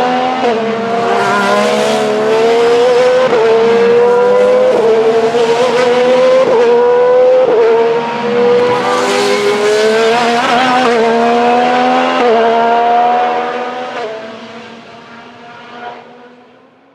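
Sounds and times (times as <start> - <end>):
race car accelerating through gears: 0.0 - 16.6.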